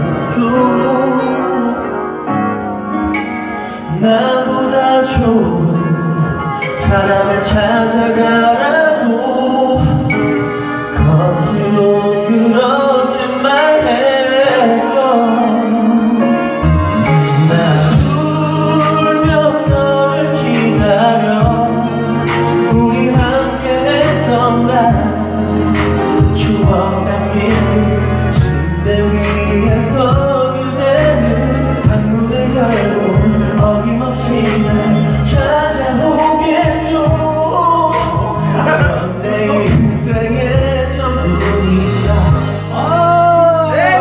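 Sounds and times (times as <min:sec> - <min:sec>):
karaoke backing music: 0:00.0 - 0:44.0
man singing into microphone: 0:00.0 - 0:44.0.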